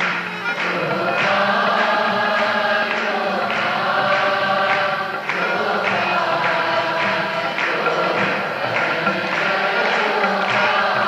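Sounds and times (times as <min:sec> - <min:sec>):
devotional music accompaniment: 0:00.0 - 0:11.0.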